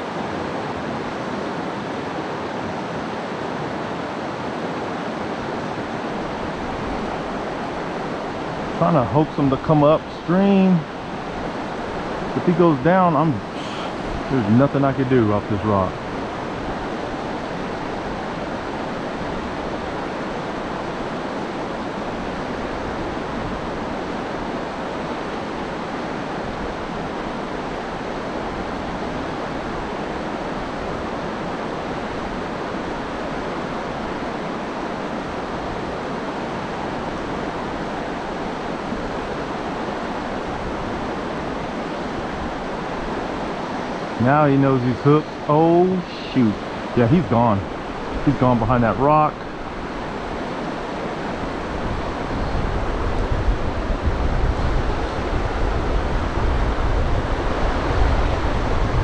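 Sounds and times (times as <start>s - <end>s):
fast-flowing river water: 0.0s - 59.0s.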